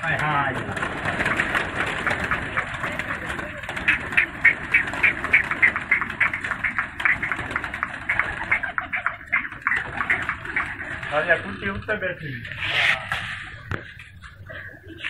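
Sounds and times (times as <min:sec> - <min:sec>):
fast regular short sharp sounds: 0:00.0 - 0:14.1
pigeons flapping wings: 0:00.0 - 0:15.0.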